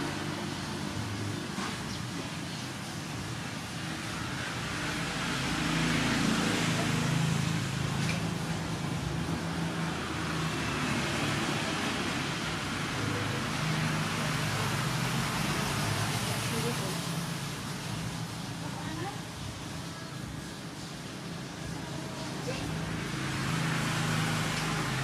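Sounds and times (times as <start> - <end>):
road noise: 0.0 - 25.0
vehicle engine hum: 0.0 - 25.0.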